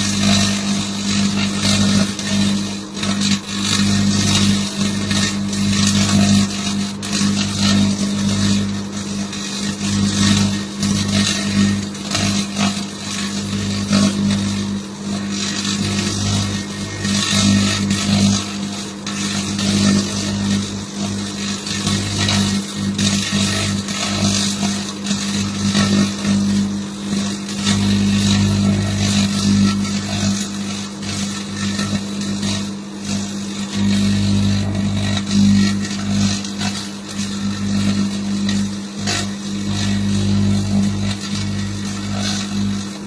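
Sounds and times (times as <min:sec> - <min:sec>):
microwave oven hum: 0:00.0 - 0:43.0.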